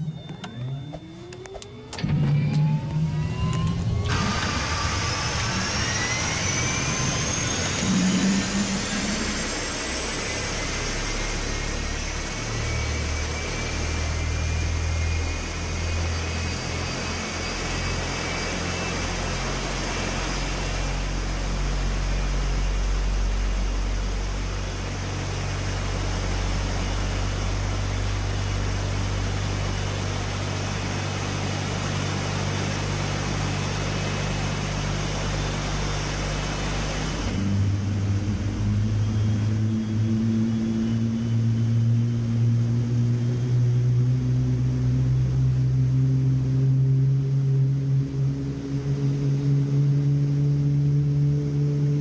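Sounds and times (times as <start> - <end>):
jet engine spooling up: 0.0 - 52.0.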